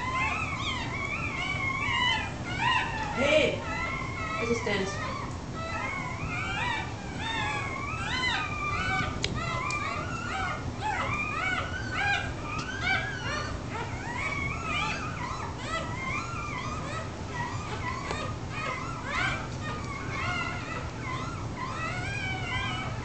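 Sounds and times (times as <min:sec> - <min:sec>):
puppies squealing and whimpering: 0:00.0 - 0:23.0.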